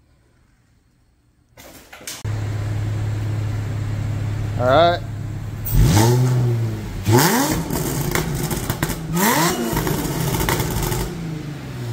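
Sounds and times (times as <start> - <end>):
car engine revving: 2.3 - 11.9.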